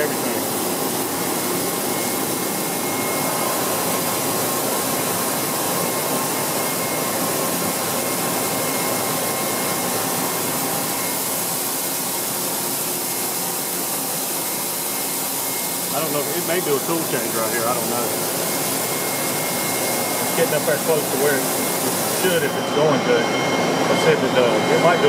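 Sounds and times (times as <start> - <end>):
coolant spraying and splashing: 0.0 - 22.6
faint machine whine: 0.0 - 25.0.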